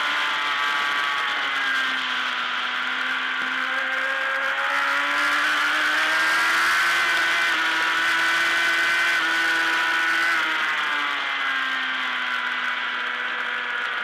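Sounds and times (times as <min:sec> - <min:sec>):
race motorcycle engine: 0:00.0 - 0:14.0.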